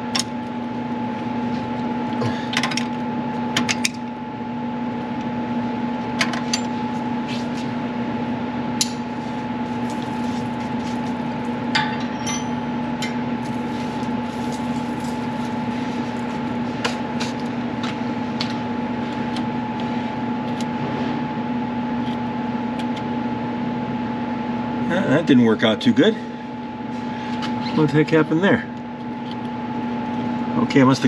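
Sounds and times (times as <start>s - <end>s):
fan humming: 0.0s - 31.0s.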